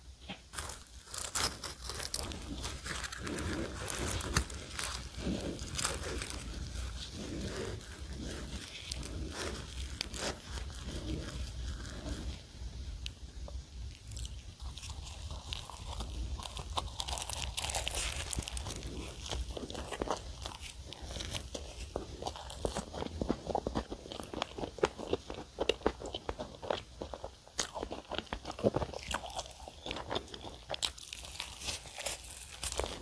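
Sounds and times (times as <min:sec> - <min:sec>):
pastry crunching when bitten: 0:00.3 - 0:13.2, 0:13.8 - 0:33.0
pastry crackling as torn: 0:00.5 - 0:12.4, 0:13.9 - 0:26.6, 0:27.6 - 0:33.0.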